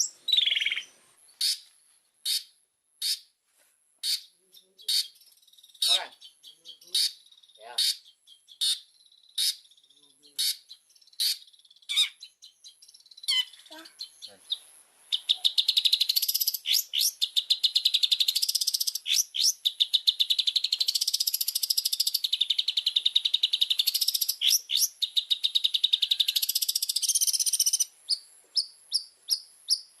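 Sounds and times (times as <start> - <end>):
bird chattering song: 0.0 - 3.3, 4.0 - 30.0
sharp downward bird calls: 0.0 - 3.3, 4.0 - 30.0.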